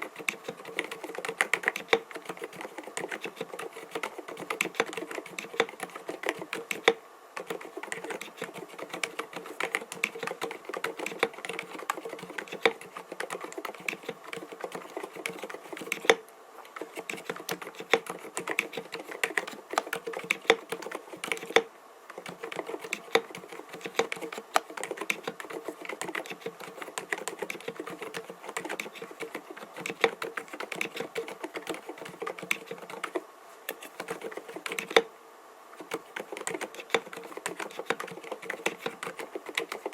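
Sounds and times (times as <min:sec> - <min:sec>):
mechanical keyboard typing: 0:00.0 - 0:35.1, 0:35.8 - 0:39.9.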